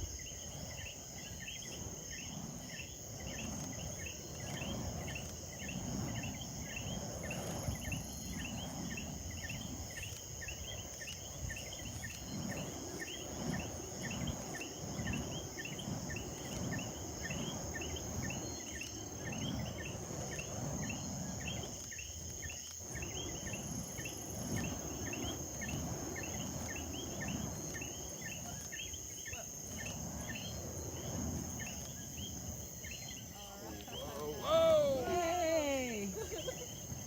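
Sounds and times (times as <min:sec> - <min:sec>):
night insects chirping: 0:00.0 - 0:37.0.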